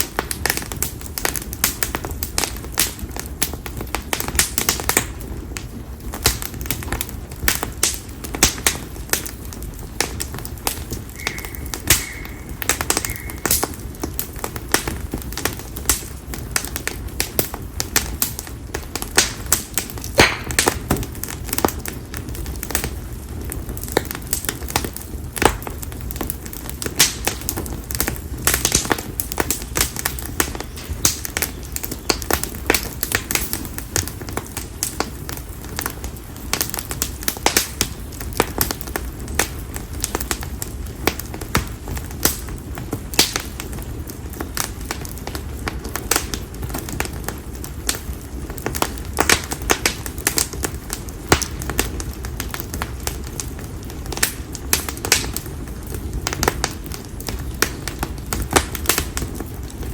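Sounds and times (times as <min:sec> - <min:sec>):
campfire crackling and popping: 0:00.0 - 0:59.9
low fire rumble: 0:00.0 - 0:59.9.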